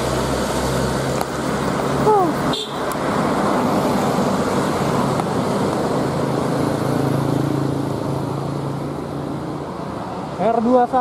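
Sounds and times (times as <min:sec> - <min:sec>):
bus engine running: 0:00.0 - 0:10.8
road and traffic noise: 0:00.0 - 0:11.0.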